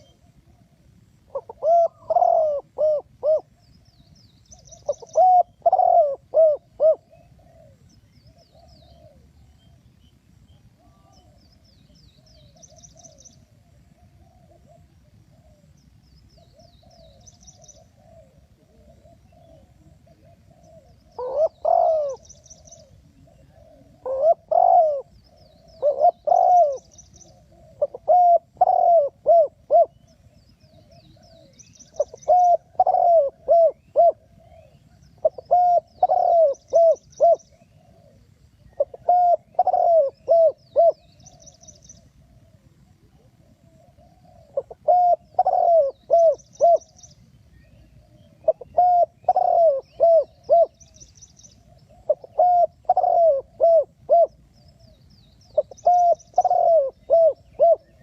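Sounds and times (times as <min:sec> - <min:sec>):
doves cooing: 0:00.0 - 0:03.7, 0:04.6 - 0:09.8, 0:10.7 - 0:47.0, 0:47.6 - 0:58.0
small birds chirping: 0:00.0 - 0:58.0.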